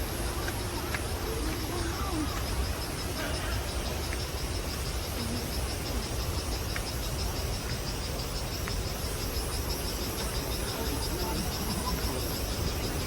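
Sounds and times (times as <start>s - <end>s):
insects chirping in pulses: 0.0s - 13.0s.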